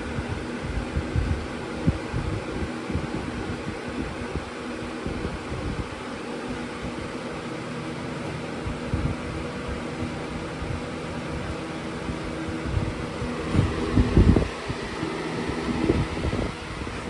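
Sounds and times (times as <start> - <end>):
box fan air rush: 0.0 - 17.0
fan motor hum: 0.0 - 17.0.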